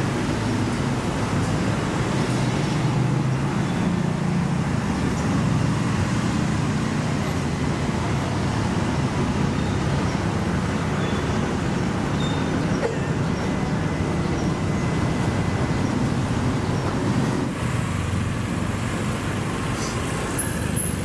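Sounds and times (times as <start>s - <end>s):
car and motorbike engines: 0.0s - 21.0s
road noise: 0.0s - 21.0s.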